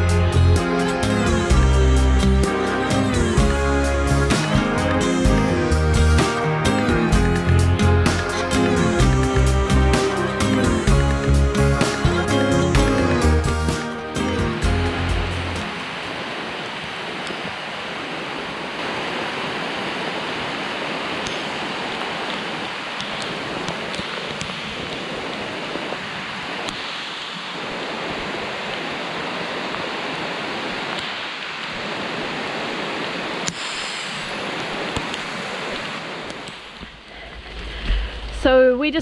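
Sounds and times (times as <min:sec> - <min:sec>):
water rushing hiss: 0:00.0 - 0:38.7.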